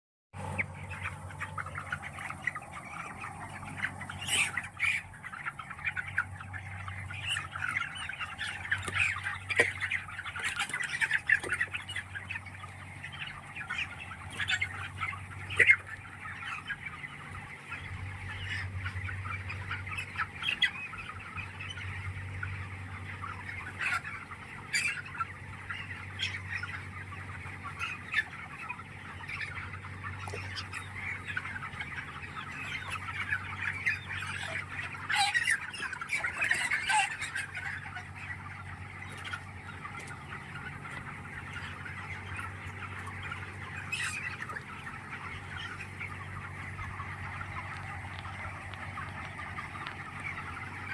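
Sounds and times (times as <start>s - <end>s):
chickens clucking and squawking: 0.4s - 50.9s.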